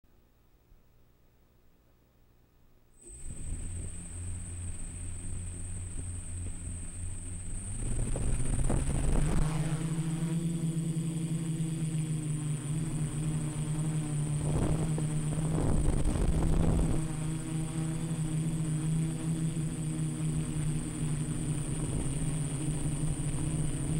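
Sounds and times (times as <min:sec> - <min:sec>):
faint high whine: 0:00.1 - 0:23.9
quadcopter motors buzzing: 0:03.0 - 0:23.9.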